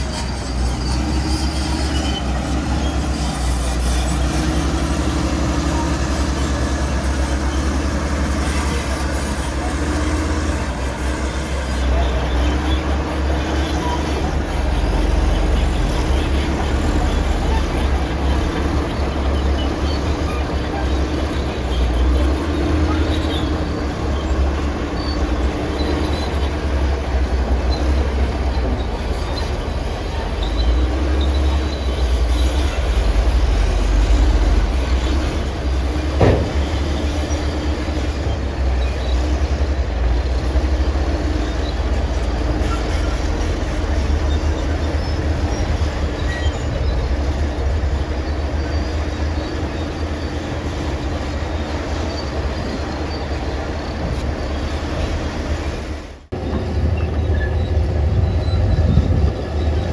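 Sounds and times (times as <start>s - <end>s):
bulldozer diesel engine rumbling: 0.0s - 59.9s
steel tracks clattering: 0.0s - 59.9s.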